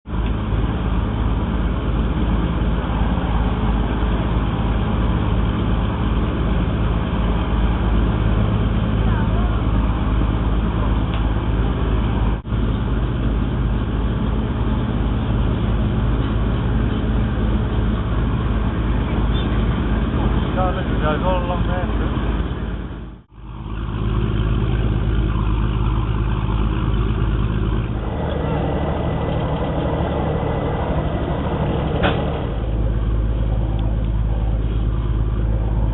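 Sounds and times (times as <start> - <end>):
boat engine droning: 0.0 - 35.9.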